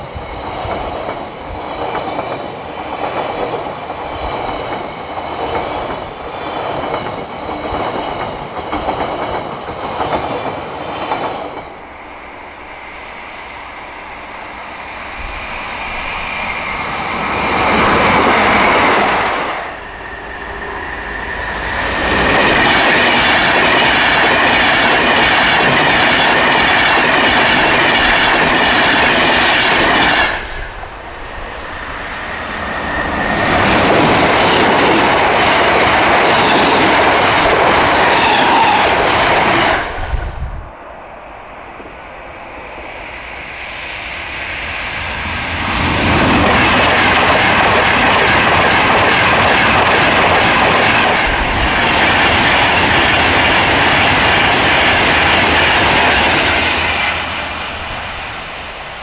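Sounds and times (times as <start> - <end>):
train wheels rumbling and clacking: 0.0 - 12.0, 12.8 - 40.6, 41.7 - 58.9.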